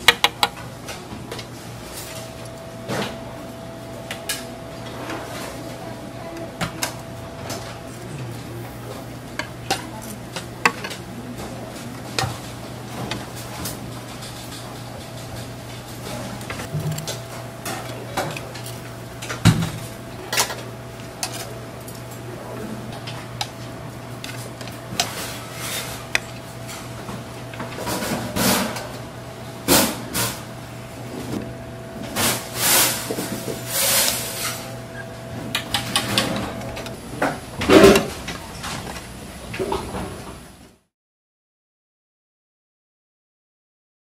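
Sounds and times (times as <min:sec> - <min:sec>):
steady low hum: 0:00.0 - 0:40.6.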